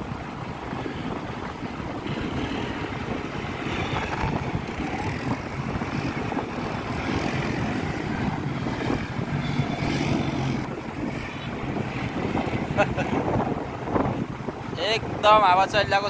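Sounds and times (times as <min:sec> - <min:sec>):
wind buffeting microphone: 0:00.0 - 0:16.0
quad bike engine passing: 0:00.7 - 0:14.3.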